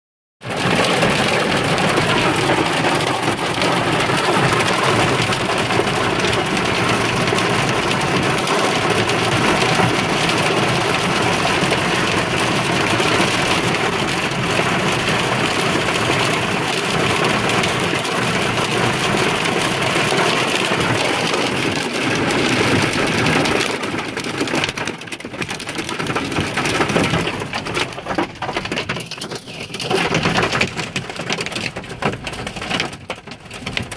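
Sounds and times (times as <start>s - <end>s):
rain and hail drumming on vehicle: 0.4s - 33.9s.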